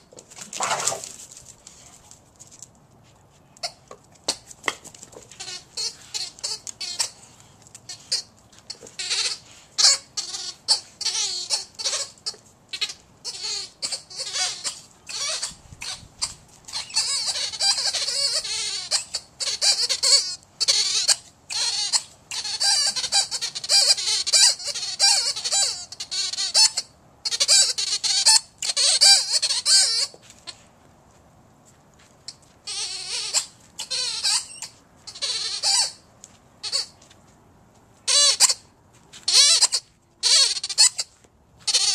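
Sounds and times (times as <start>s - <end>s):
rubber toy squeaking: 3.6s - 30.6s, 32.2s - 37.0s, 38.0s - 41.9s.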